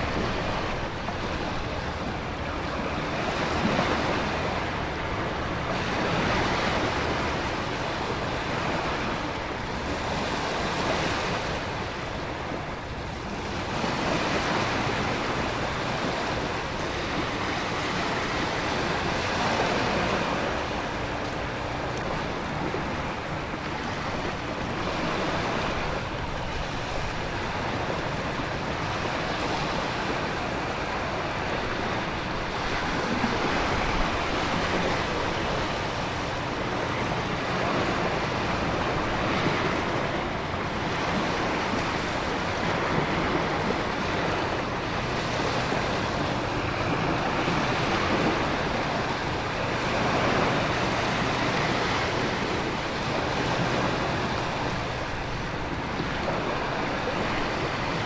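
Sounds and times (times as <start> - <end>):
ocean surf surging: 0.0 - 58.0.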